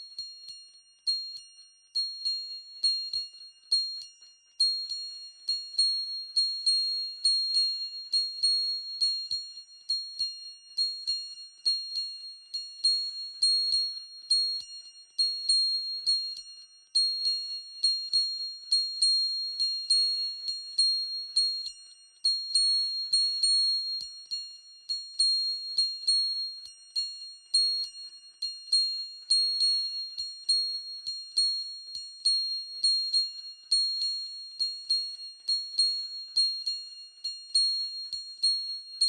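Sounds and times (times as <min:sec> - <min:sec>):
high bell-like pings: 0:00.0 - 0:39.0.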